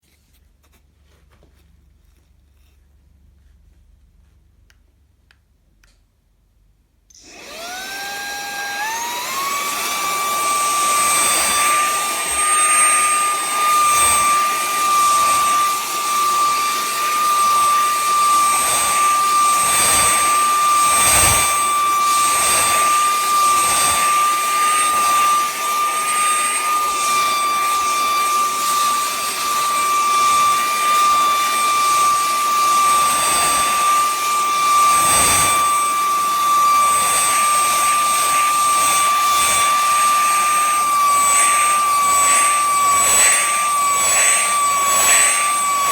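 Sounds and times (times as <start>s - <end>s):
handheld vacuum cleaner whining: 7.1s - 45.9s.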